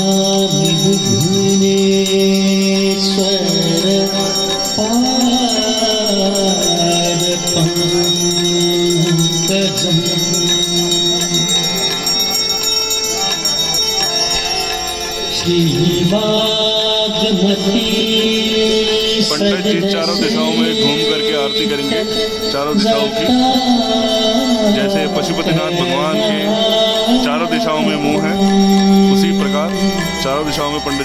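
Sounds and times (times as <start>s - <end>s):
devotional hymn singing: 0.0s - 12.5s, 15.3s - 31.0s
hand bells ringing: 0.0s - 31.0s.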